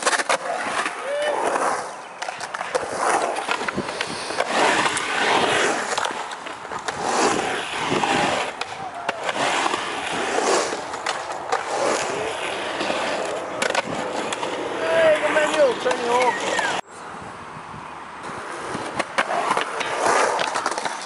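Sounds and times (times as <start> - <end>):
skateboard clacking on concrete: 0.0 - 16.8, 18.3 - 21.0
skateboard wheels rolling on concrete: 0.0 - 21.0.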